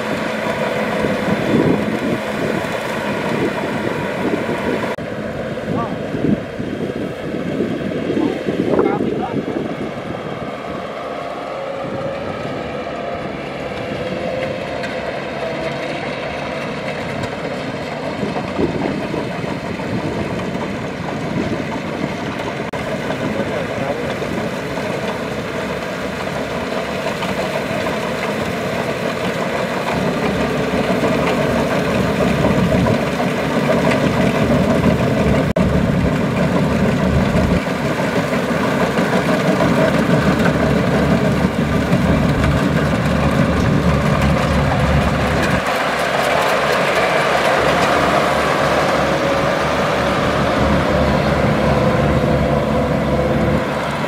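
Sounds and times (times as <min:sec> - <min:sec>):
combine harvester engine running: 0:00.0 - 0:54.0
mid-pitched machine whine: 0:00.0 - 0:54.0.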